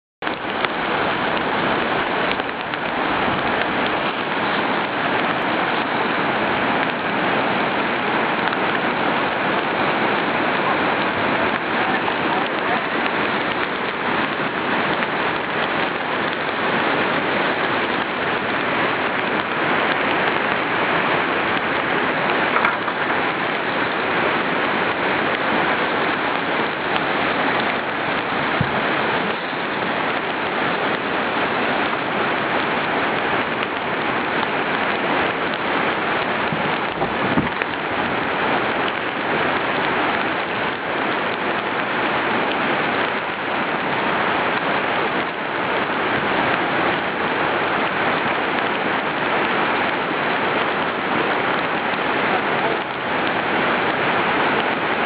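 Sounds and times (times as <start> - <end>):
whitewater rapids rushing: 0.2 - 55.0.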